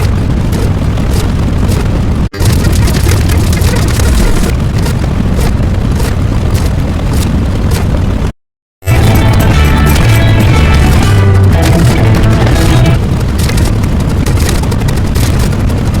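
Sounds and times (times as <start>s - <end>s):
crackling: 0.0s - 16.0s
loud distorted rumbling: 0.0s - 16.0s.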